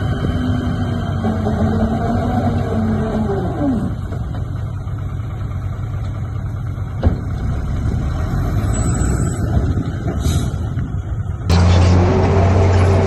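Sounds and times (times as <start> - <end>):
diesel machinery rumbling: 0.0 - 13.0.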